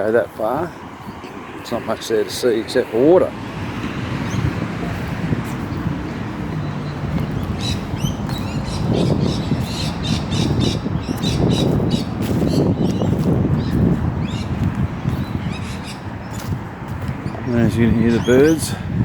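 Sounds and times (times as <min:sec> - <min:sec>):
birds chirping and squawking: 0:03.6 - 0:18.9.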